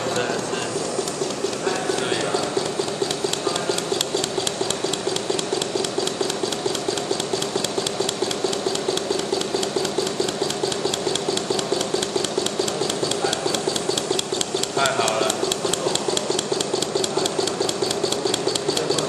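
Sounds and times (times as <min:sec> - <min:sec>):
stirling engine ticking: 0:00.0 - 0:19.0.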